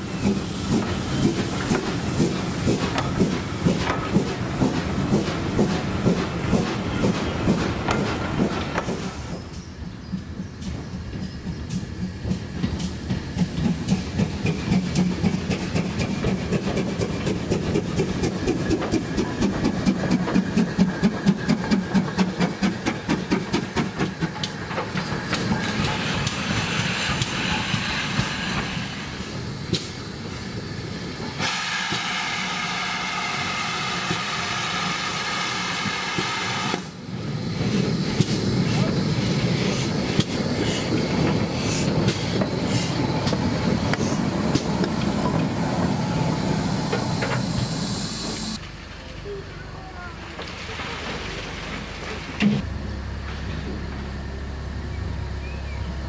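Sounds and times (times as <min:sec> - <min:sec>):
steady hiss of steam: 0:00.0 - 0:48.6
steam locomotive beat: 0:00.0 - 0:48.6.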